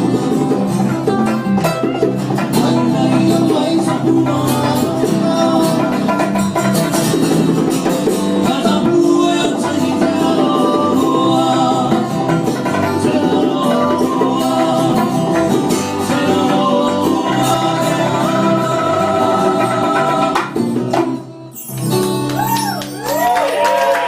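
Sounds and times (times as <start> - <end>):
music with singing: 0.0 - 23.2.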